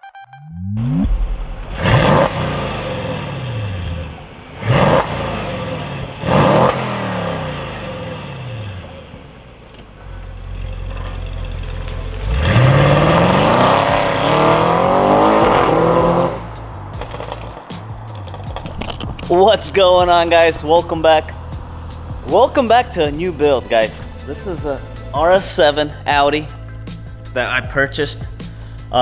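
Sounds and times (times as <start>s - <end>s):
car engine revving: 0.5s - 29.0s.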